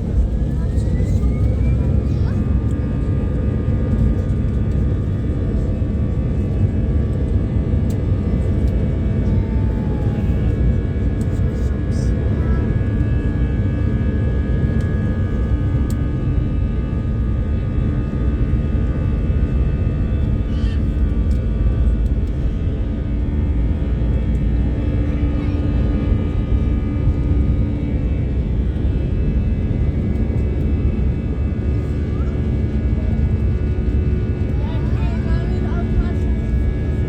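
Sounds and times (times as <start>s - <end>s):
airplane engines droning: 0.0s - 37.0s.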